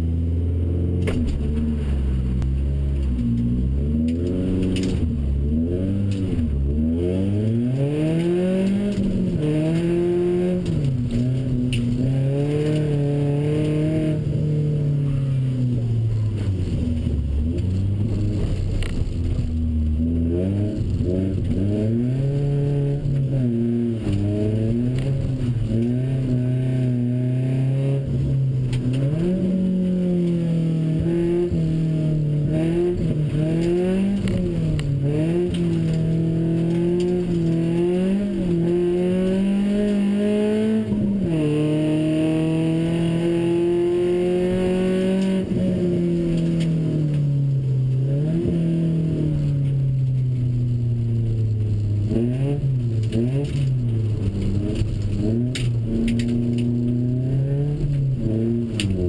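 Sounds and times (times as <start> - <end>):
car engine revving and shifting: 0.0 - 59.0.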